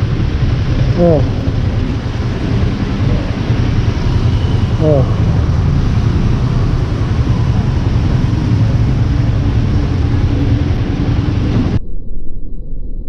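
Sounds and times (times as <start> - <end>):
traffic engine and road rumble: 0.0 - 11.8.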